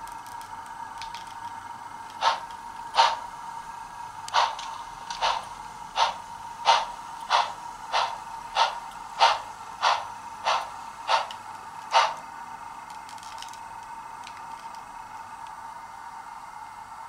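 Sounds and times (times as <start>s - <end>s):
model train steam chuffs: 0.3s - 17.0s.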